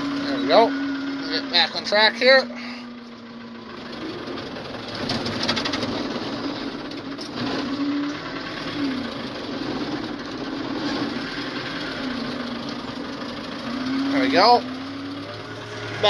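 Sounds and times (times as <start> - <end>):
steady rough noise: 0.0 - 16.0
vehicle engine under load: 0.0 - 16.0.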